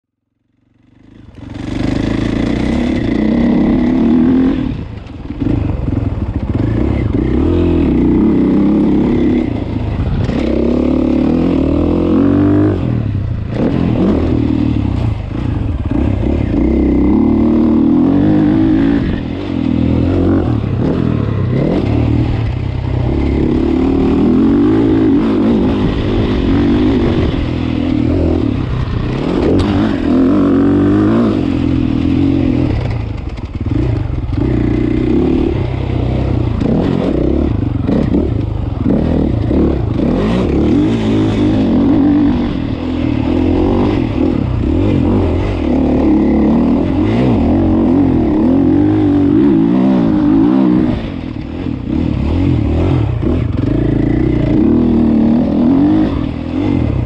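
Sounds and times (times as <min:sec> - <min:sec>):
bike rattling over rough track: 0:00.6 - 0:57.0
motocross bike engine revving: 0:01.0 - 0:57.0.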